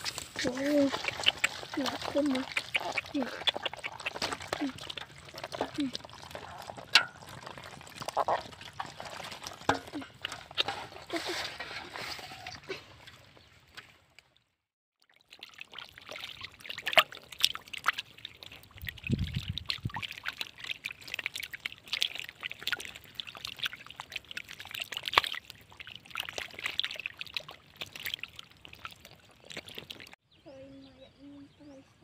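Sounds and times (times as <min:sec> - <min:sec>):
water pouring and splashing: 0:00.0 - 0:14.4, 0:15.0 - 0:30.2.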